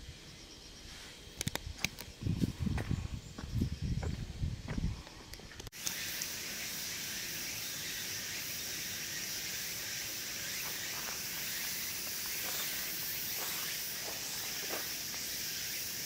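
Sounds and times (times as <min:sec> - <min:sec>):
cicadas chorus: 0:00.0 - 0:16.0.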